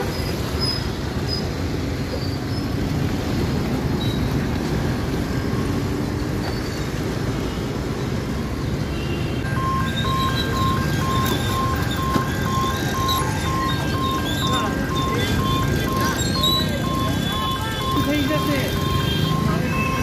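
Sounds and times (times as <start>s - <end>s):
traffic passing: 0.0s - 20.0s.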